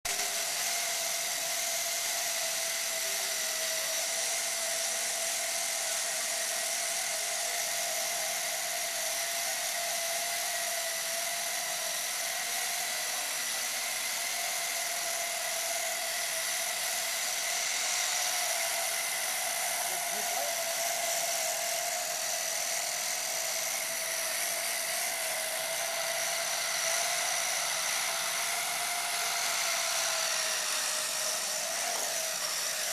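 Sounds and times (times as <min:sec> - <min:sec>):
quadcopter motors whining: 0:00.0 - 0:32.9.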